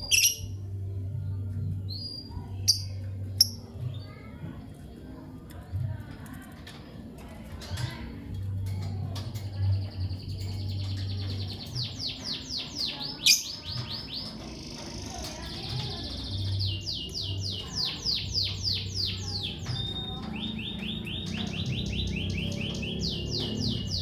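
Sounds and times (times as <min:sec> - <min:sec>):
lovebirds chirping: 0:00.0 - 0:04.2, 0:09.0 - 0:24.0.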